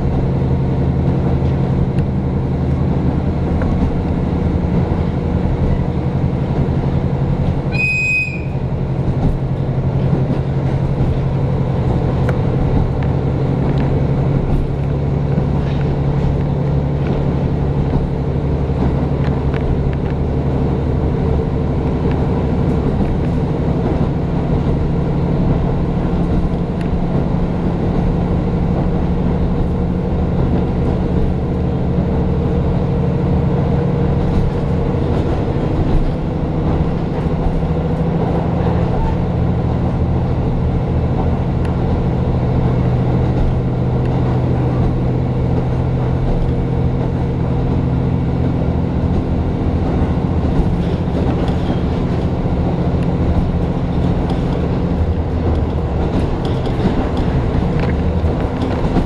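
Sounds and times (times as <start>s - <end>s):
railcar engine drone: 0.0s - 59.0s
wheel-on-rail rumble: 0.0s - 59.0s.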